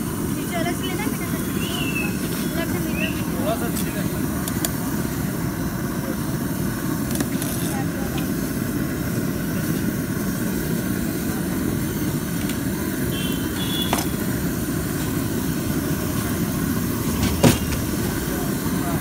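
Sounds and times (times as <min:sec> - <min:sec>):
pressure stove burner roar: 0:00.0 - 0:19.0.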